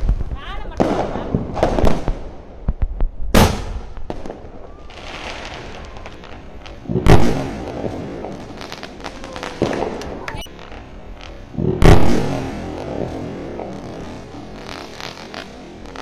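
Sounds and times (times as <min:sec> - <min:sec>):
firework burst boom: 0:00.0 - 0:10.8, 0:11.4 - 0:16.0
firework crackles: 0:00.0 - 0:16.0.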